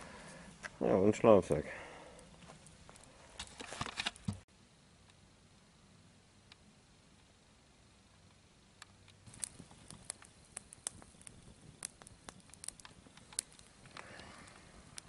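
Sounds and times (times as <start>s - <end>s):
wood fire crackling: 0.0s - 4.4s, 5.0s - 15.0s.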